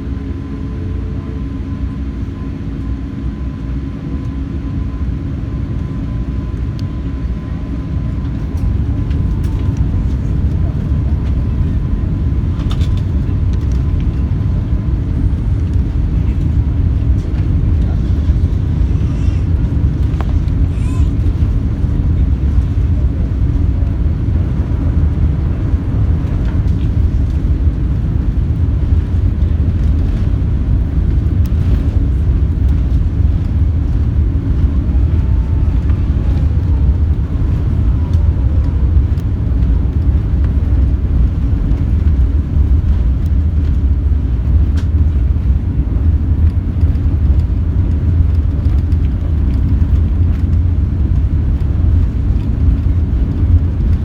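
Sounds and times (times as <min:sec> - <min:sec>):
aircraft engine cabin rumble: 0:00.0 - 0:54.0.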